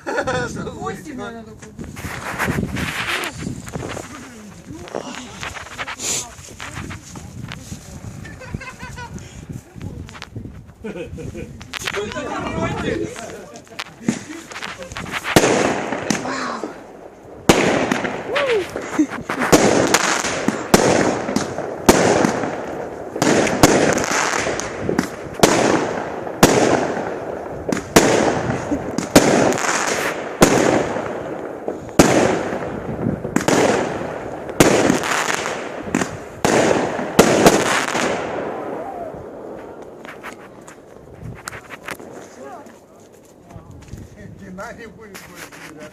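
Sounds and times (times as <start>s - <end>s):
firework crackling: 0.7s - 45.9s
firework bangs: 1.8s - 10.3s, 11.5s - 43.4s.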